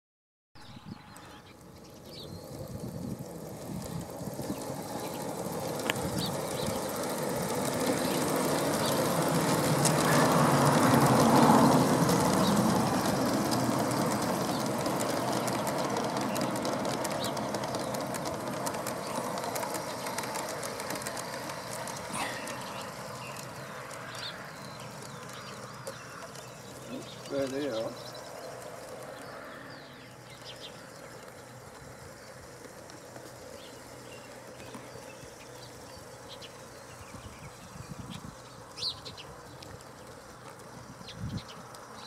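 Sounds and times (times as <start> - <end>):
model train rumbling on track: 0.7 - 42.0.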